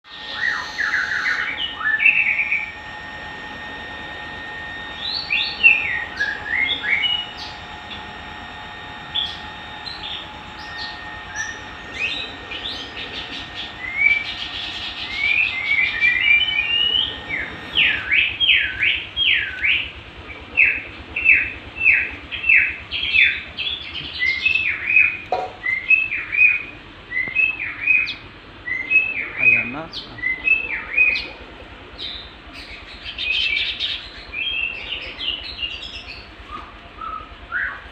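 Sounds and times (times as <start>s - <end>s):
songbird whistling song: 0.1s - 3.8s, 4.4s - 31.3s, 32.0s - 37.9s
faint steady hum: 0.1s - 37.9s.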